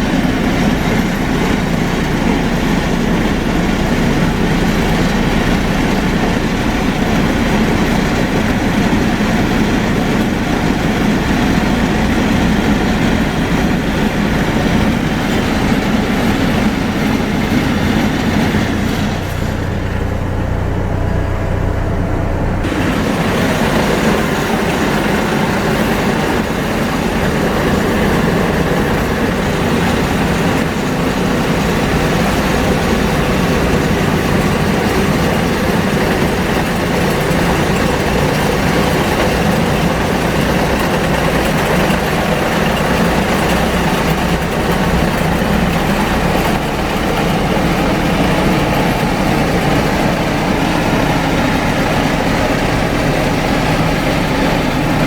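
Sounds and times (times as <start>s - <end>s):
heavy machinery engine droning: 0.0s - 55.0s.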